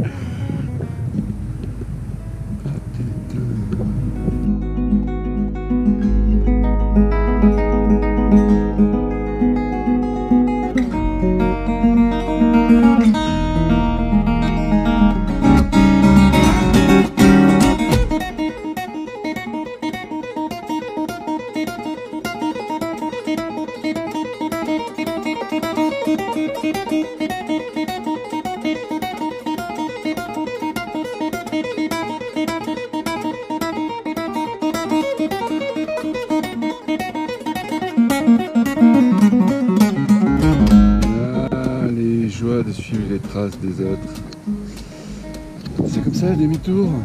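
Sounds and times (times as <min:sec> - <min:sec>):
acoustic guitar picking and strumming: 0:00.0 - 0:47.0.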